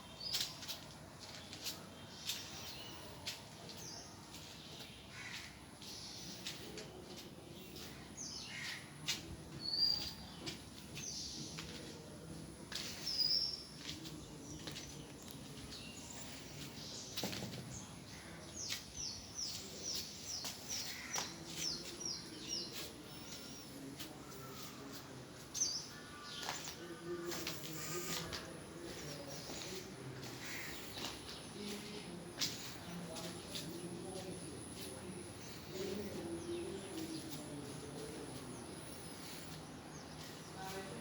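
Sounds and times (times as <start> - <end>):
birds chirping and calling: 0.0 - 12.0, 12.7 - 41.0.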